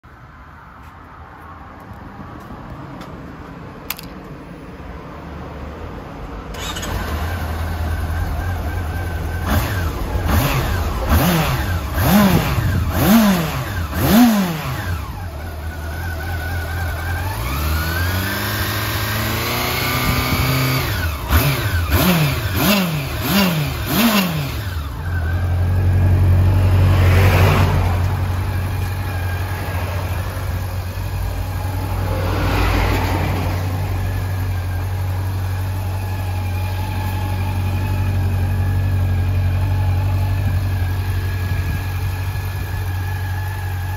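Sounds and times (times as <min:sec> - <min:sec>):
motorcycle engine revving: 0:06.5 - 0:43.9.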